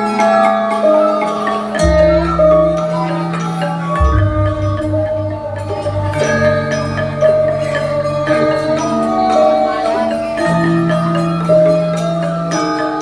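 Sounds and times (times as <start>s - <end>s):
metallophones ringing: 0.0s - 13.0s.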